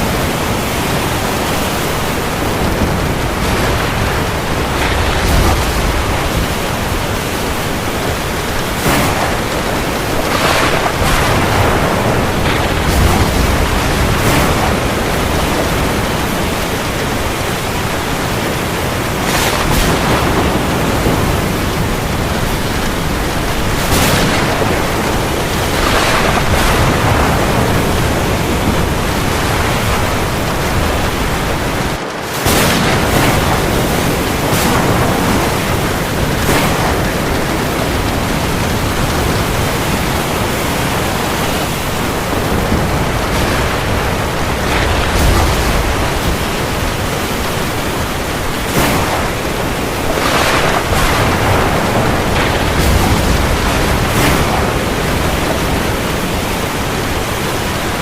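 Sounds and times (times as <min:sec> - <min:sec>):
heavy rain on the sea: 0:00.0 - 0:58.0.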